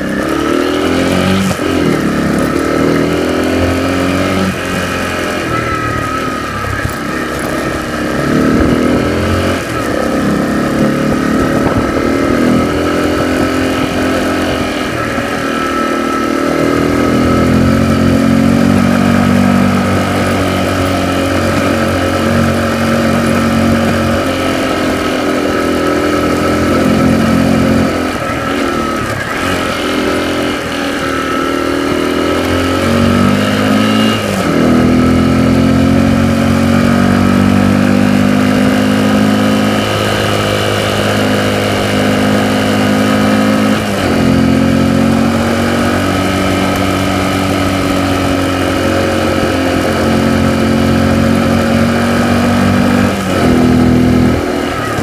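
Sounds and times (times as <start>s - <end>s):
vehicle engine from inside cabin: 0.0s - 55.0s.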